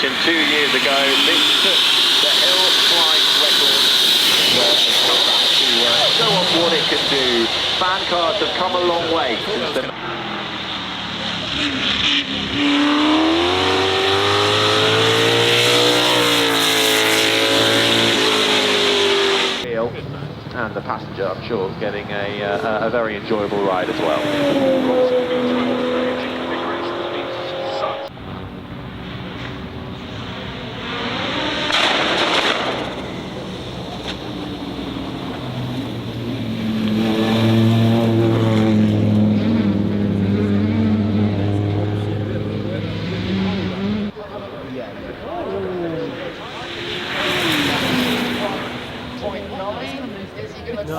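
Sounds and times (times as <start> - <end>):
car engine drone: 0.0 - 50.9.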